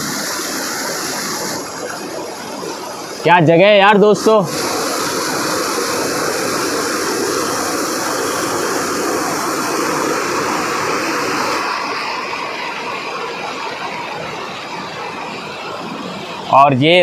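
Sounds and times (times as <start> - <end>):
waterfall cascading over rocks: 0.0 - 16.8.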